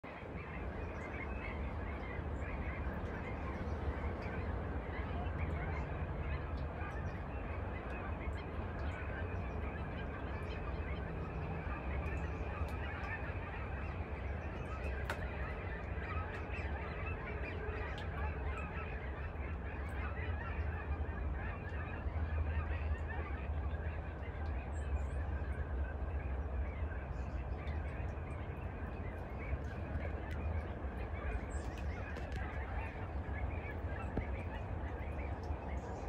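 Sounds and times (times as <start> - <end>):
geese honking: 0.1 - 36.0.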